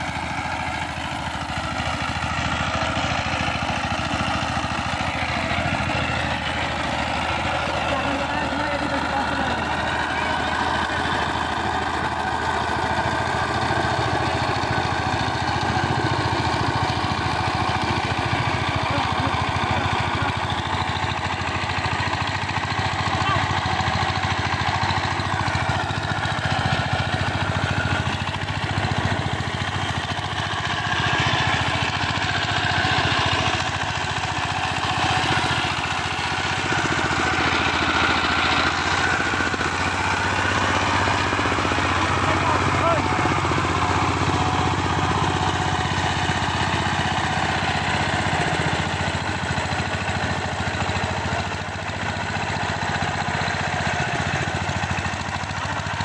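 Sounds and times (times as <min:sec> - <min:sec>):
tiller engine running: 0:00.0 - 0:56.0.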